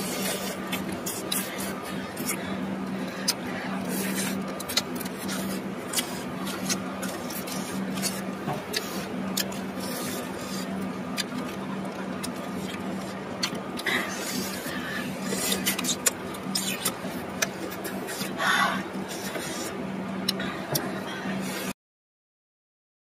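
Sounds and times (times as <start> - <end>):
chewing and sucking shells: 0.0 - 20.9
steady low hum: 0.0 - 21.8.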